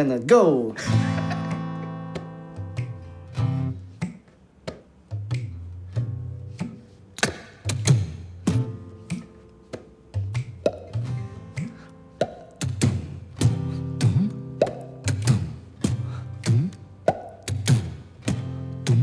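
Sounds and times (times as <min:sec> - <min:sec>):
hand drums playing slow rhythm: 0:01.2 - 0:19.0.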